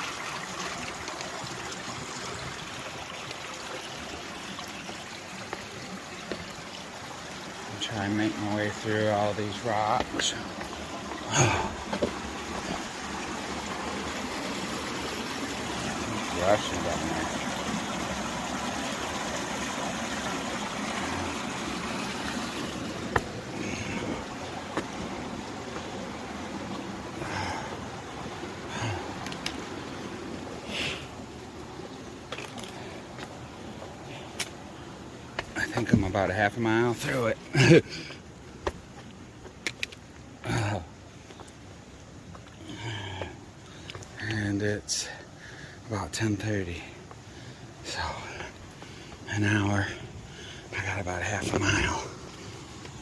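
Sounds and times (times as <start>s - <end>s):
stream trickling among boulders: 0.0s - 53.0s.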